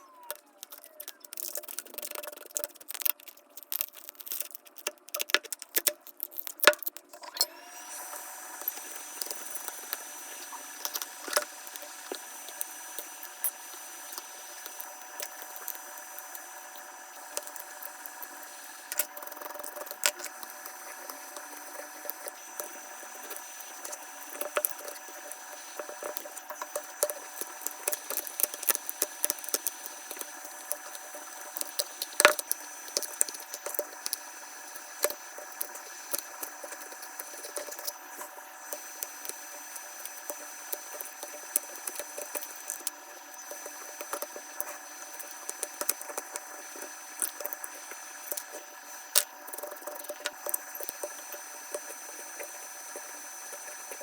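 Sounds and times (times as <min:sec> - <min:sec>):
hand tools clicking and scraping: 0:00.2 - 0:07.6, 0:08.6 - 0:54.0
high machine whine: 0:07.1 - 0:54.0.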